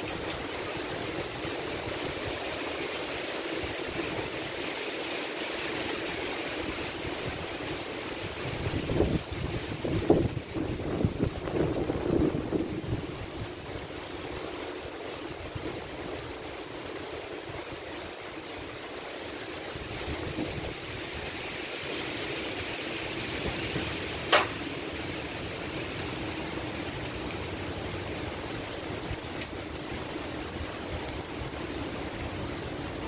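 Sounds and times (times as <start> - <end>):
strong wind rushing through trees: 0.0 - 33.0.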